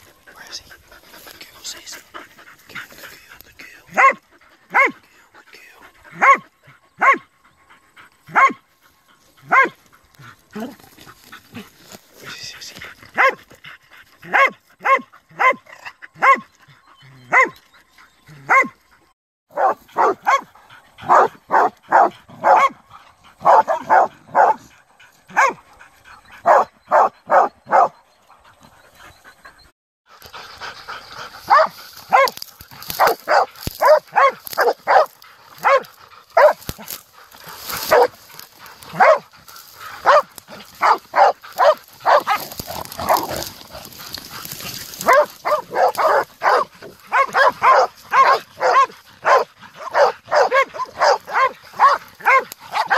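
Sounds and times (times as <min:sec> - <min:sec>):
dogs barking: 0:00.0 - 0:05.1, 0:05.9 - 0:18.8, 0:19.5 - 0:29.2, 0:30.2 - 0:52.9.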